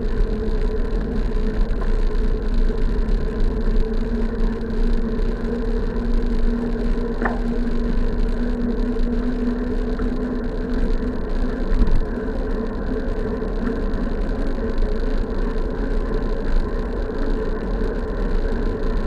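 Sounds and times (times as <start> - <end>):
bicycle road noise: 0.0 - 19.0
low steady hum: 0.0 - 19.0
wind rumble on microphone: 0.0 - 19.0.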